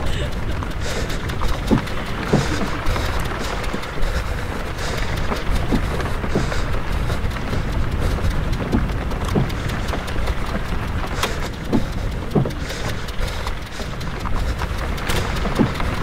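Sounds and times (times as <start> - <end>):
crackles: 0.0 - 16.0
vehicle engine rumble: 0.0 - 16.0.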